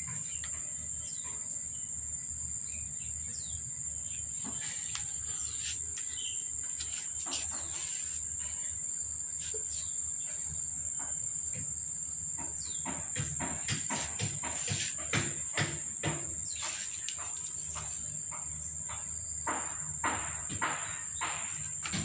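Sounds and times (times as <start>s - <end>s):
insects droning shrill: 0.0s - 22.0s.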